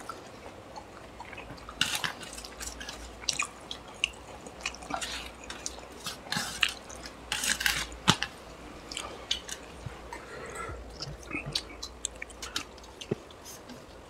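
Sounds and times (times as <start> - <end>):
wet chewing and lip smacking: 0.0 - 7.2, 8.8 - 14.0.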